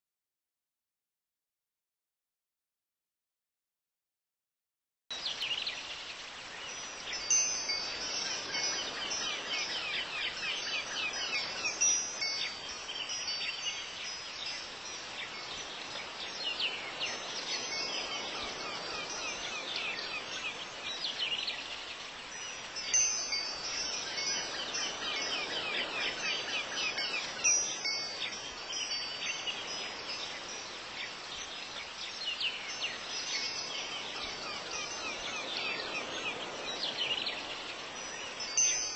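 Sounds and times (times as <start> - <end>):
wind chimes ringing: 6.7 - 38.9.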